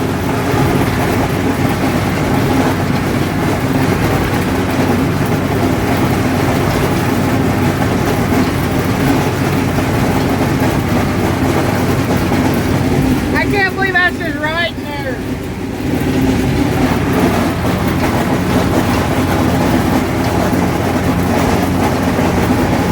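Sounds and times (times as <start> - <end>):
tractor diesel engine droning: 0.0 - 22.9.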